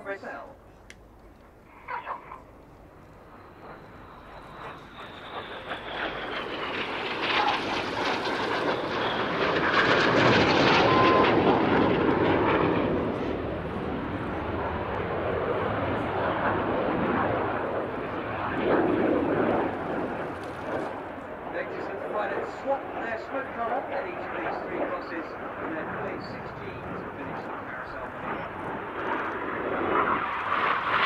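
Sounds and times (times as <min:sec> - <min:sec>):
jets flying past: 0:01.7 - 0:31.0.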